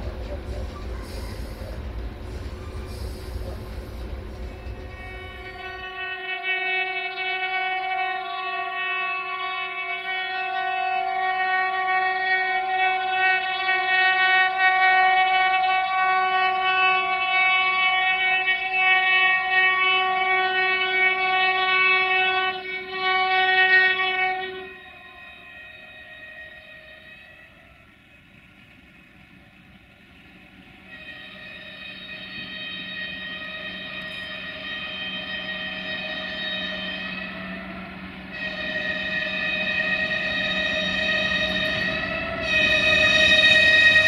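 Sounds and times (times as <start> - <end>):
locomotive air horn blast: 0.9 - 28.0, 30.8 - 44.0.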